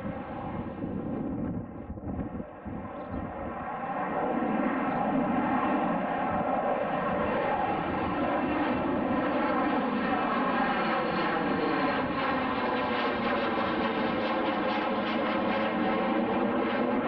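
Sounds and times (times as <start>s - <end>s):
aircraft engines passing: 0.0s - 17.0s.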